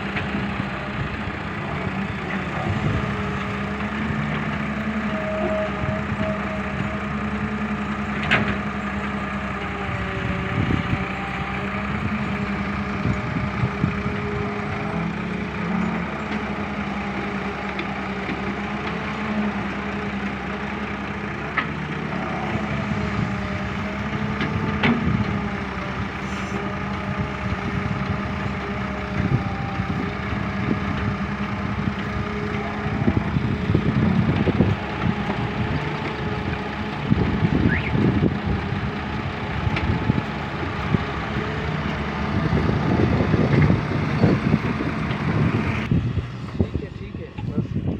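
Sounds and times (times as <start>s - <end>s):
heavy vehicle engine running: 0.0s - 47.9s.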